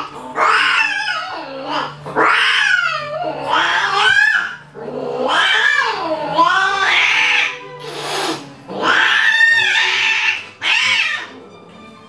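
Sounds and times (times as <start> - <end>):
cats yowling: 0.0 - 12.0.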